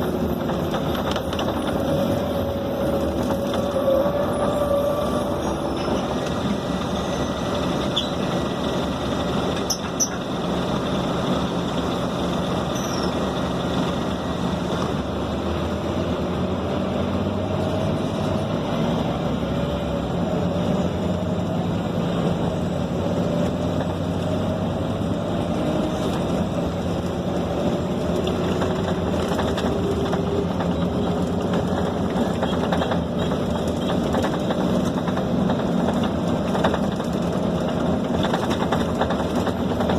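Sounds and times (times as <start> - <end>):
bus diesel engine: 0.0 - 39.9
road and body noise: 0.0 - 39.9.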